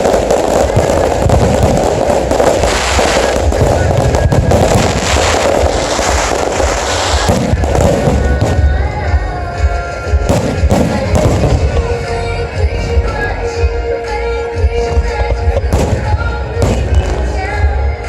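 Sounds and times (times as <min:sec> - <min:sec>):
fireworks crackling and booming: 0:00.0 - 0:18.0
music with held notes: 0:00.0 - 0:18.0.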